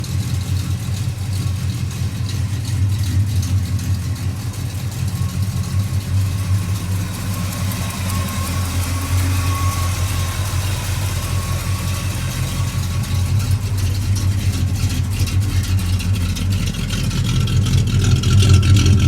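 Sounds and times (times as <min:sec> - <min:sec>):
pickup engine idling: 0:00.0 - 0:19.0.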